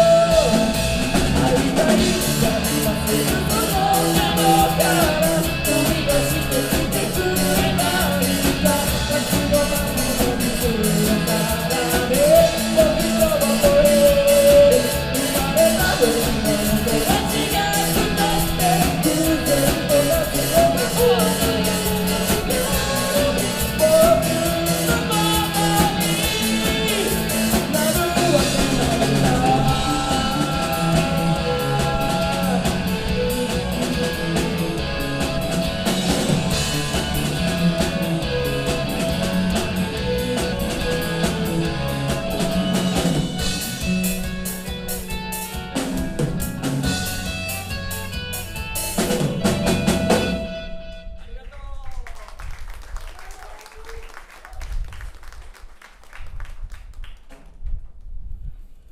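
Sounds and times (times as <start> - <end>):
live rock band playing: 0.0 - 51.2.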